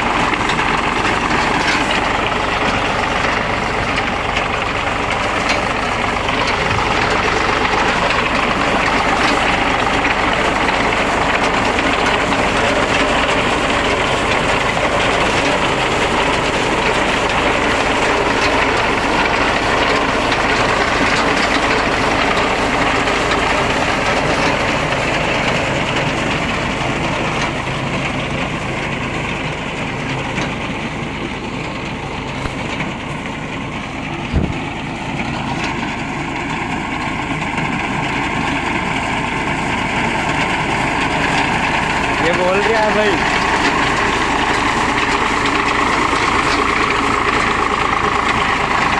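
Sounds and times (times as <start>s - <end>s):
tractor engine and machinery: 0.0s - 48.9s.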